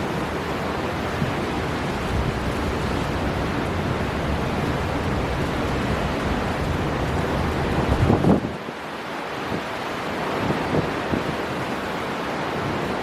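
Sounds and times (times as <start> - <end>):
storm wind gusts: 0.0 - 8.8, 9.4 - 13.0
heavy sea surf: 0.0 - 13.0.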